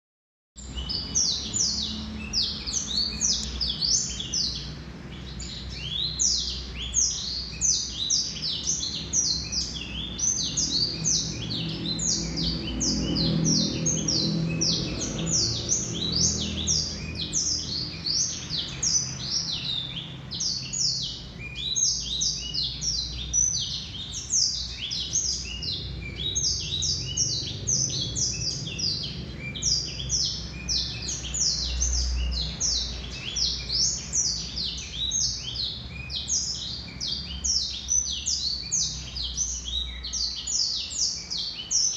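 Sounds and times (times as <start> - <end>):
bird singing rapid high notes: 0.6 - 41.9.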